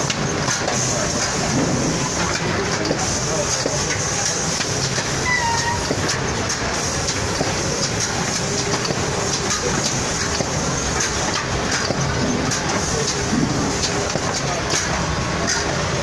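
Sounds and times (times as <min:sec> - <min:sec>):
machine mechanical clatter: 0:00.0 - 0:16.0.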